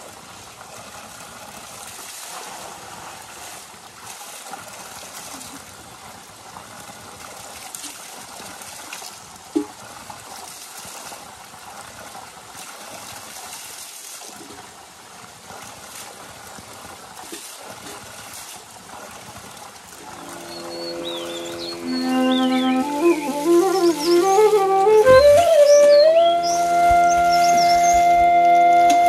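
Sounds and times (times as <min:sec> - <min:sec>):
water splashing onto stones: 0:00.0 - 0:29.0.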